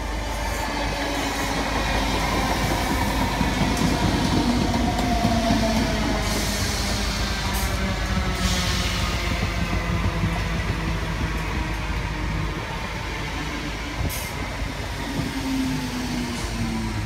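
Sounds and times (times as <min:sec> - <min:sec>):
train rumble with humming tone: 0:00.0 - 0:17.0.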